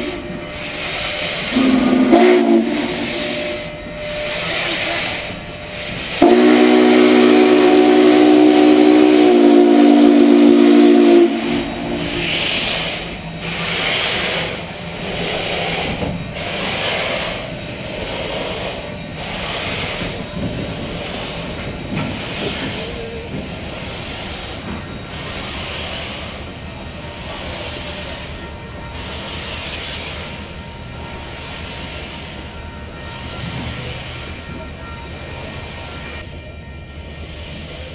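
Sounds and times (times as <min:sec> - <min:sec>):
steam locomotive whistle: 0:00.0 - 0:37.9
train passing with rushing hiss: 0:00.0 - 0:37.9.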